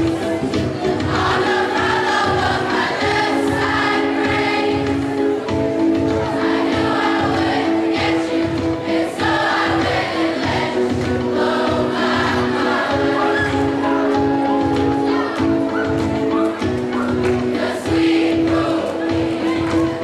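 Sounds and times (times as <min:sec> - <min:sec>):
children's chorus singing pop song: 0:00.0 - 0:20.0
music accompaniment with steady beat: 0:00.0 - 0:20.0.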